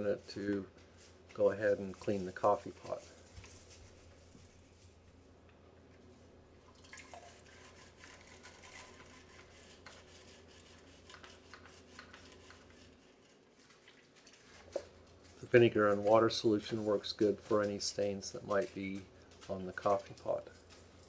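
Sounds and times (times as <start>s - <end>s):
scrubbing glass coffee pot: 0.0s - 4.8s, 6.8s - 20.5s.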